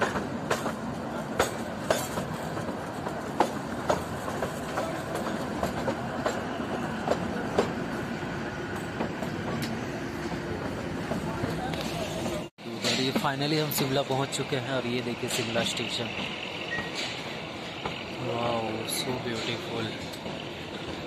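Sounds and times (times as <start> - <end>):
train rumble: 0.0 - 21.0
train wheels clicking over rail joints: 0.0 - 21.0.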